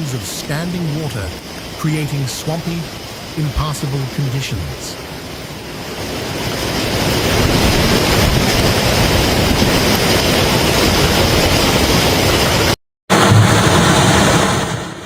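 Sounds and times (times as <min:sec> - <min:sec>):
roar of rushing floodwater: 0:00.0 - 0:15.0.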